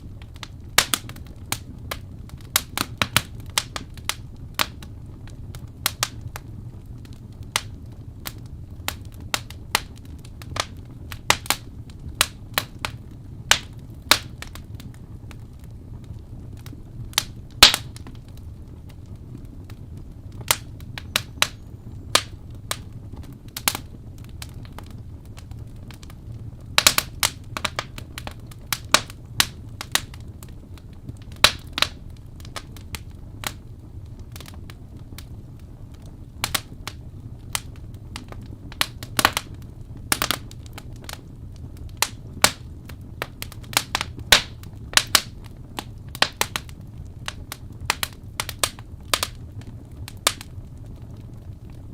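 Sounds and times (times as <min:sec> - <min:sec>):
low rumble of burning: 0:00.0 - 0:51.9
wood fire crackling and popping: 0:00.0 - 0:51.9.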